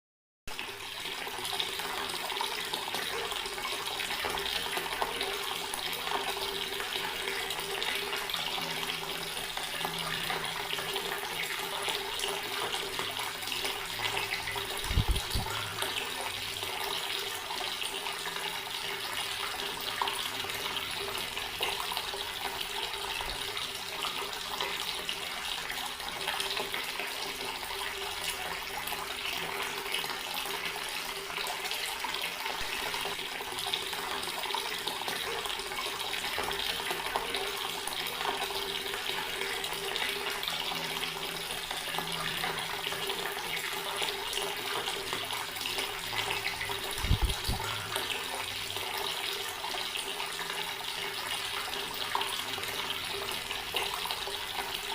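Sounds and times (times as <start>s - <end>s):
water running from a tap: 0.5s - 54.9s.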